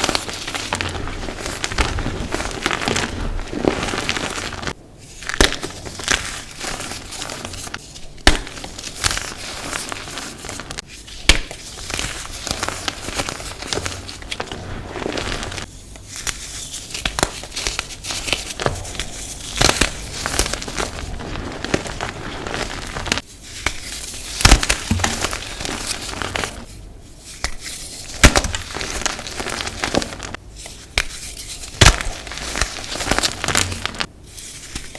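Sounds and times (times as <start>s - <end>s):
chalk crunching and crackling: 0.0s - 34.9s.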